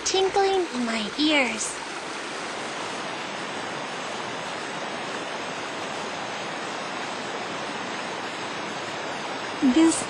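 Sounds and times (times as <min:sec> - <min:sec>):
mountain river rushing: 0:00.0 - 0:10.0.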